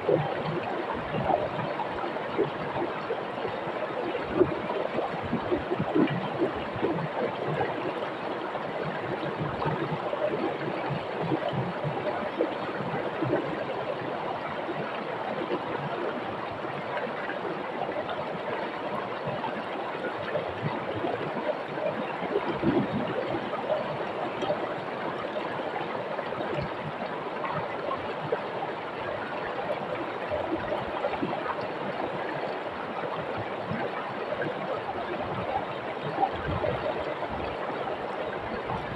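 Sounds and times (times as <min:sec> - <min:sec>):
river flowing over stones: 0:00.0 - 0:38.9.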